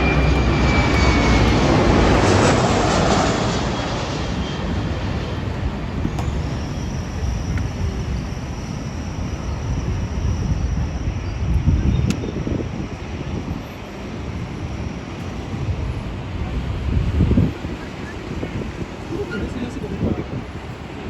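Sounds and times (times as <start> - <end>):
high engine whine: 0.0 - 21.0
jet airliner passing: 0.0 - 21.0.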